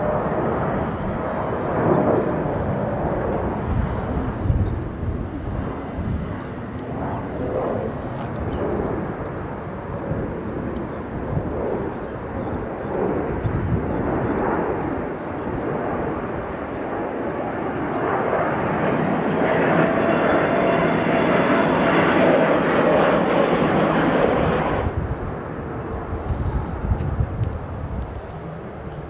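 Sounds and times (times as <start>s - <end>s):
jet engine noise with whine: 0.0s - 29.0s.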